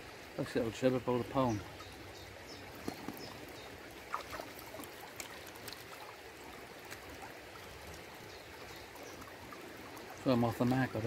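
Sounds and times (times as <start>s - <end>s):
river water running over gravel: 0.0s - 11.0s.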